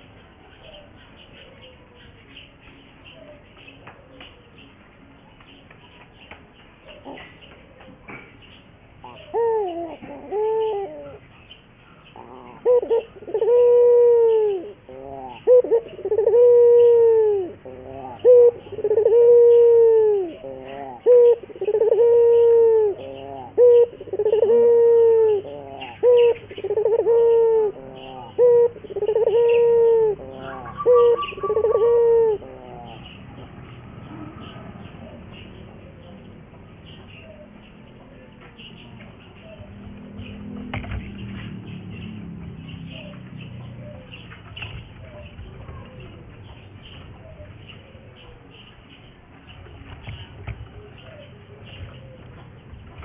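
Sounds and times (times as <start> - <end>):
small birds chirping: 0.0 - 53.0
dove cooing: 5.8 - 53.0.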